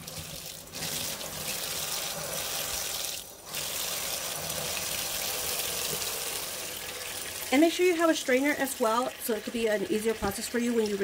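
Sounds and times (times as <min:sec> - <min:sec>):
faucet water splashing into sink: 0:00.0 - 0:11.0.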